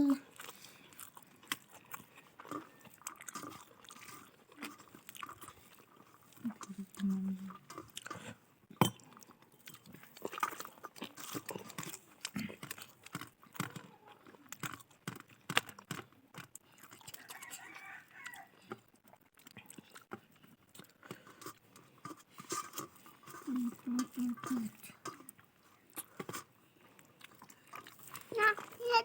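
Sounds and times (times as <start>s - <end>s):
person chewing food: 0.2s - 28.9s.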